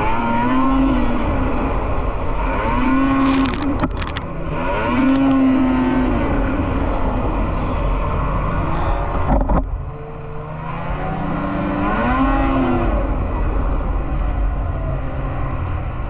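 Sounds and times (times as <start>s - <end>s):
snowmobile engines racing: 0.0s - 16.0s.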